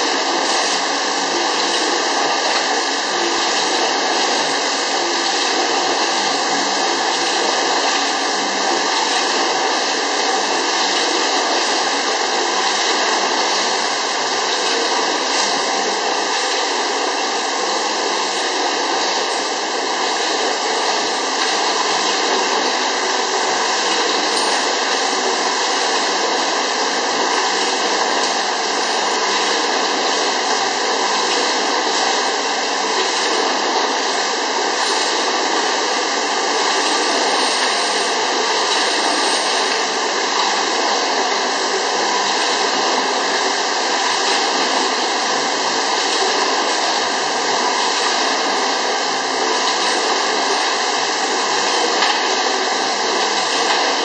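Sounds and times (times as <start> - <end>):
filling machine running: 0.0 - 54.0.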